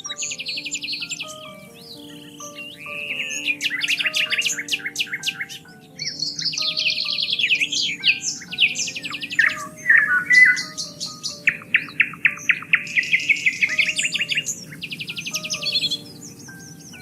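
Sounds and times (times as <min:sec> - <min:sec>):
soft background music: 0:00.0 - 0:17.0
songbirds chirping trills: 0:00.0 - 0:17.0.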